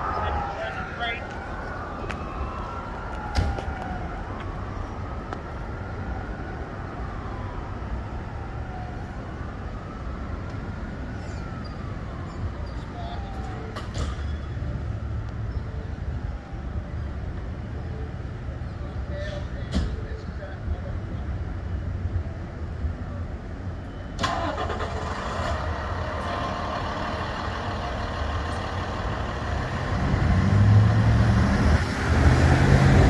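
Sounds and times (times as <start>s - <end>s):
distant siren wailing: 0.0s - 18.1s, 23.9s - 33.0s
low rumble of street noise: 0.0s - 33.0s.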